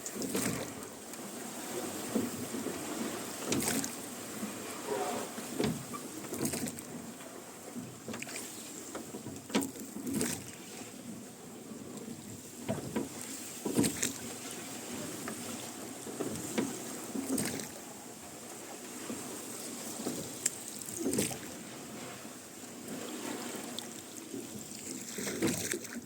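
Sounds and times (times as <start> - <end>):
oars dipping and splashing: 0.0 - 26.0.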